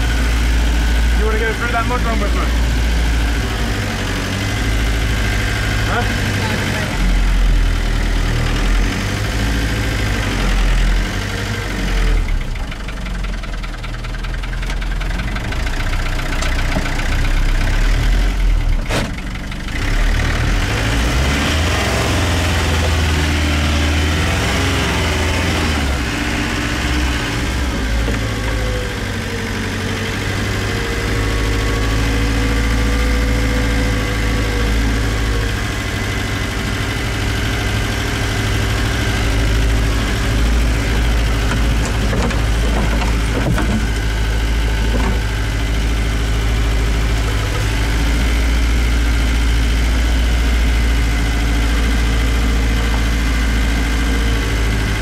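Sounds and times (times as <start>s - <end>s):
truck engine under load: 0.0s - 55.0s.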